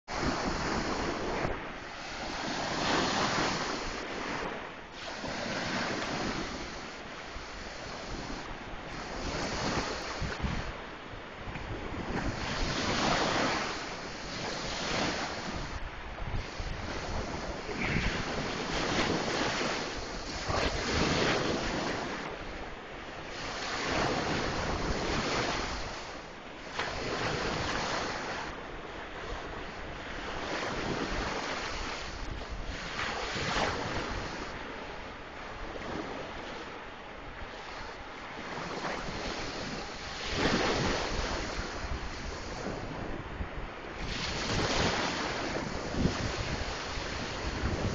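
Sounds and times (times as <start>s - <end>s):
wind noise on microphone: 0.0s - 47.9s
sea waves breaking: 0.1s - 47.9s.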